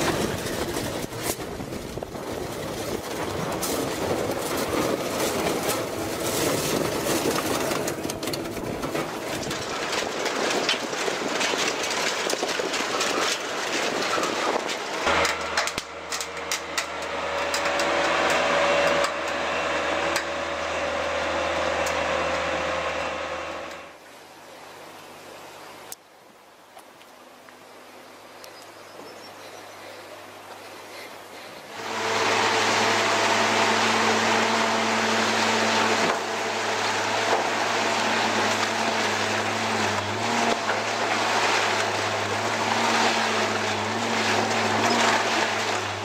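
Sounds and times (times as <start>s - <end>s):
shredder crunching vehicle body: 0.0s - 23.8s, 31.8s - 46.0s
shredder machine hum: 0.0s - 24.0s, 31.7s - 46.0s.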